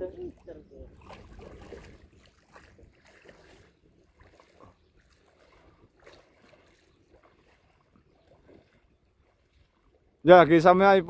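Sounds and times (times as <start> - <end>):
faint water splashing: 0.0 - 11.0.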